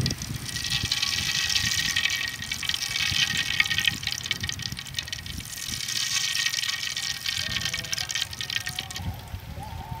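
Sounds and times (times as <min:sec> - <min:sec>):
hot oil sizzling in pan: 0:00.0 - 0:09.0.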